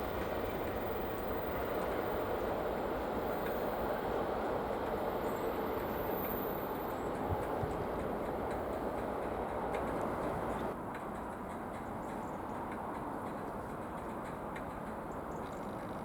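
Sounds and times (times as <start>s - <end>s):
train running: 0.0s - 15.7s.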